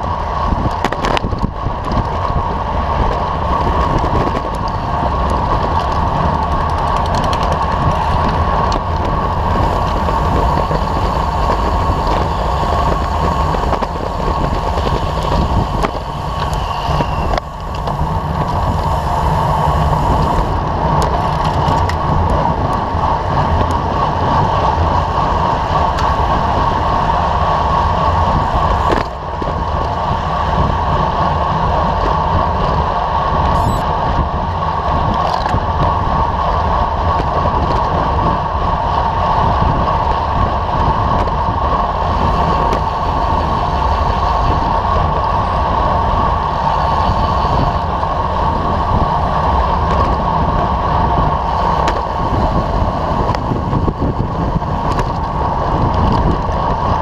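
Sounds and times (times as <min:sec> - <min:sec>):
tyre noise on asphalt: 0:00.0 - 0:57.0
wind rushing over microphone: 0:00.0 - 0:57.0.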